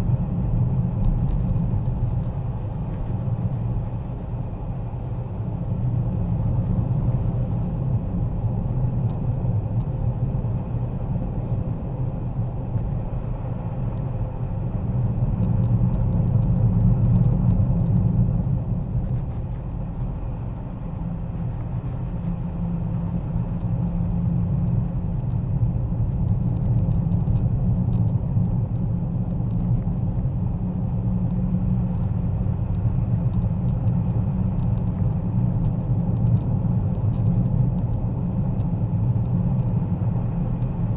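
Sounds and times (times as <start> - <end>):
car cabin road rumble: 0.0 - 40.9.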